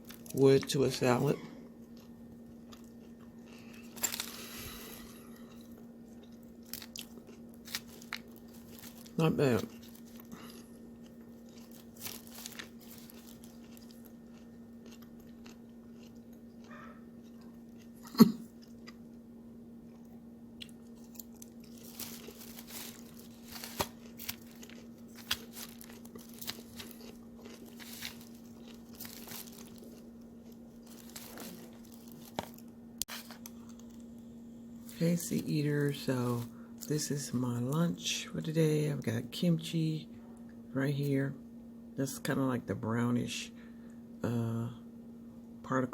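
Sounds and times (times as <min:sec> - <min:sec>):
chewing crunchy salad: 0:00.0 - 0:19.2, 0:19.8 - 0:37.8
steady low hum: 0:00.0 - 0:45.9.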